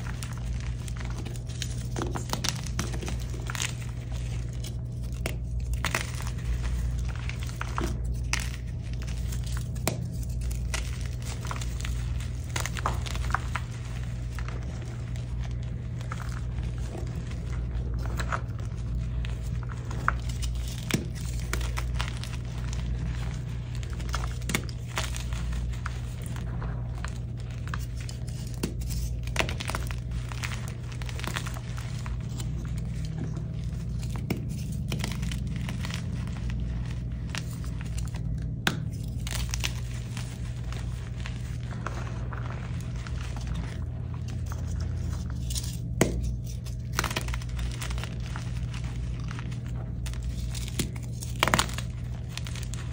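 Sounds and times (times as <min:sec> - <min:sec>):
chalk crunching and crumbling: 0:00.0 - 0:52.9
steady low hum: 0:00.0 - 0:52.9.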